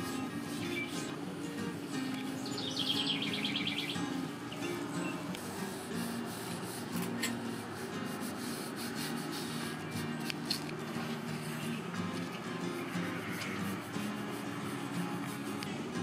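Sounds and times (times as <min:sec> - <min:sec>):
paintbrush brushing scrape: 0:00.0 - 0:03.5, 0:04.8 - 0:16.0
quiet background music: 0:00.0 - 0:16.0.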